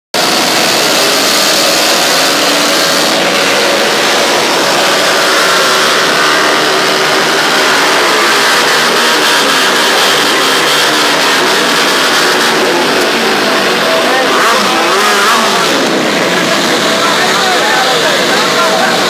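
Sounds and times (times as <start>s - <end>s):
motorcycle engines revving: 0.1s - 19.0s.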